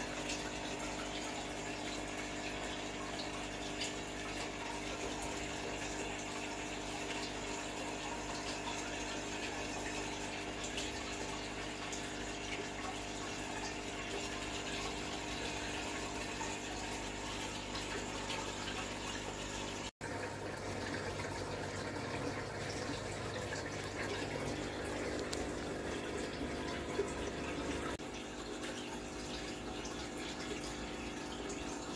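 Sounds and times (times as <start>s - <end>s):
pump motor hum: 0.0s - 31.9s
water trickling and splashing: 0.0s - 31.9s.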